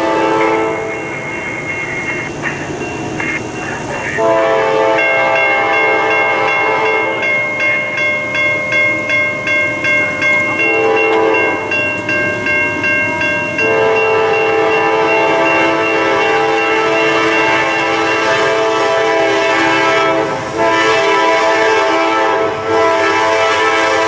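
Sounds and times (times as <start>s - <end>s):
locomotive horn blasts: 0.0s - 7.6s, 10.6s - 11.8s, 13.6s - 24.0s
crossing warning bell ringing: 0.0s - 24.0s.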